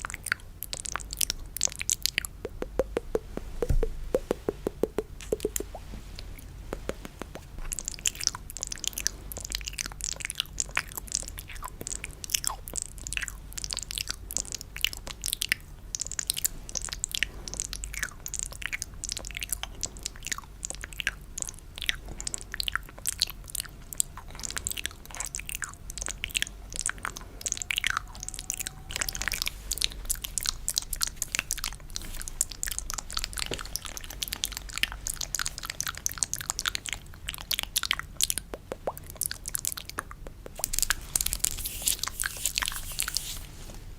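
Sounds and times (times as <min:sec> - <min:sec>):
wet mouth clicks and smacks: 0:00.0 - 0:43.4.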